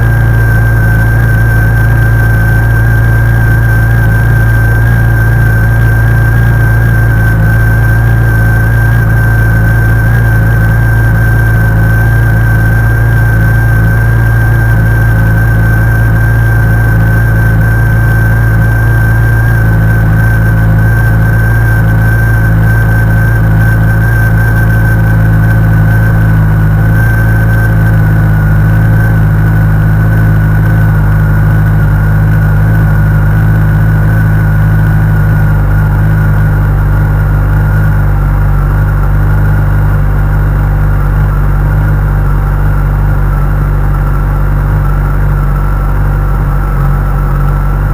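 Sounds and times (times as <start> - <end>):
motorcycle engine idling: 0.0 - 47.9
thin high whine: 0.0 - 47.9.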